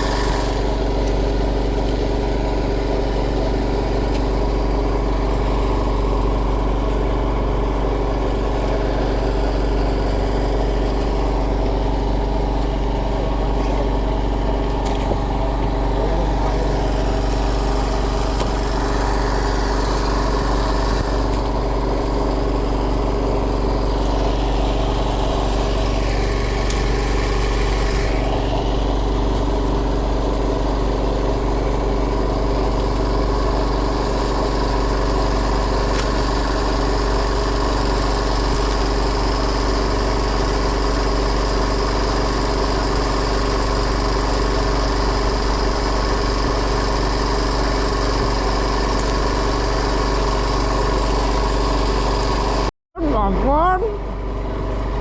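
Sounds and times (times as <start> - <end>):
boat engine idling: 0.0 - 52.7.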